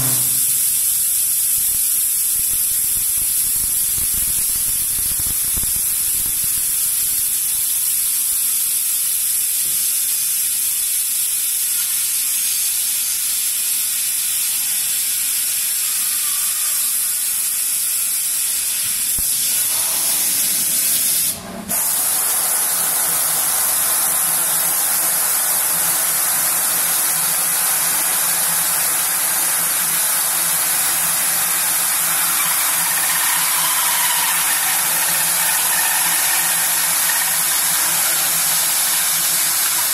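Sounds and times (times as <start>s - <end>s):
machine running with steady hiss: 0.0s - 39.9s.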